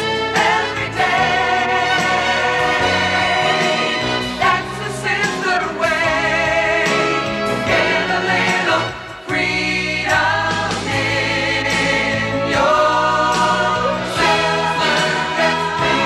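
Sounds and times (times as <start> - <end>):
orchestra playing: 0.0 - 9.3, 12.3 - 16.0
choir singing: 0.0 - 16.0.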